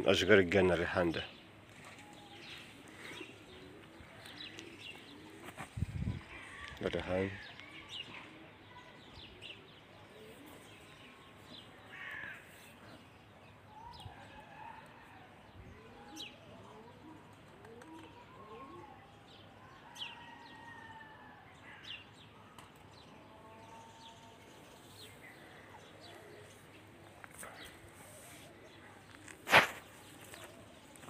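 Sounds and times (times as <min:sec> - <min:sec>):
faint birdsong: 0:00.0 - 0:31.0.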